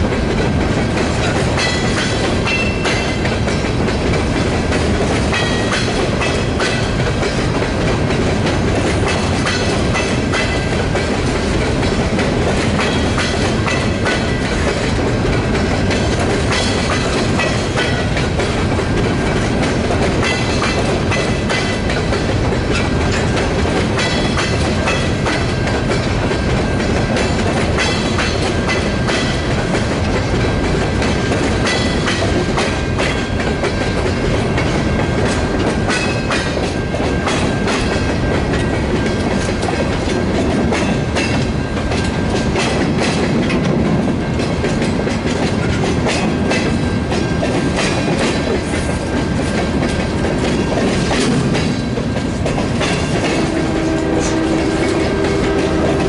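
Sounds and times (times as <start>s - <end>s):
train wheels rumbling on rail: 0.0s - 56.0s
wheels clickety-clack on rail joints: 0.0s - 56.0s.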